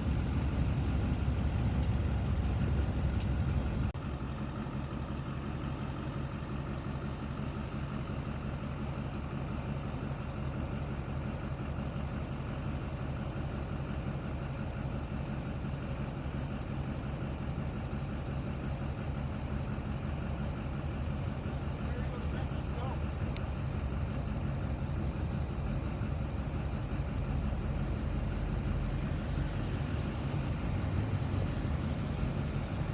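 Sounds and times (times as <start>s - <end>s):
truck engine idling: 0.0s - 32.9s.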